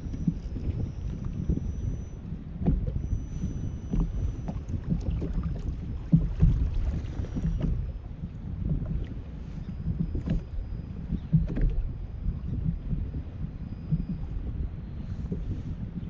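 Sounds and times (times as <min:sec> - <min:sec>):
water and wind rumbling against hull: 0:00.0 - 0:16.0.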